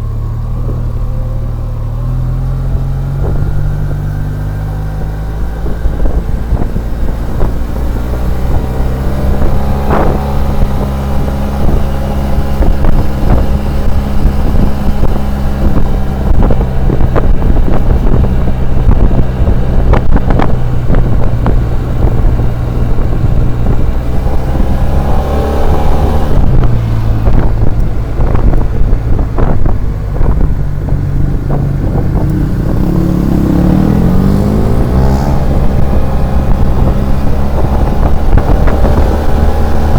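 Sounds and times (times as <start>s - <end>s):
scooter engine running: 0.0s - 39.9s
wind buffeting microphone: 0.0s - 39.9s.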